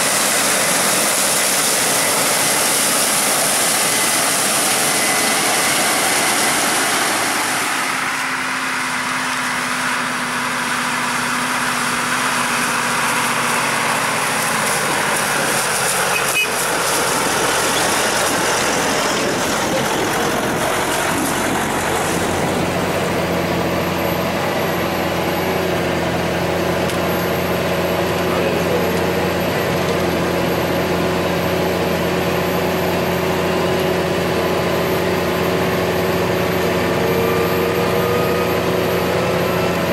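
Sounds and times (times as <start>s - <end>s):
heavy diesel farm machinery running: 0.0s - 39.9s.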